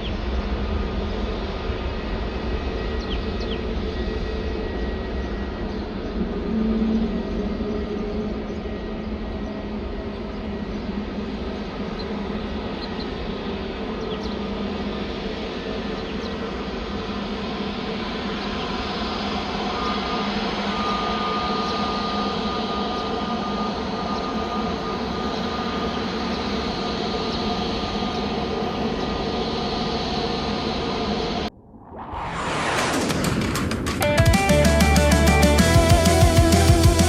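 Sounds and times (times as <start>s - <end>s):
high engine whine: 0.0s - 37.0s
jet engines running: 0.0s - 37.0s.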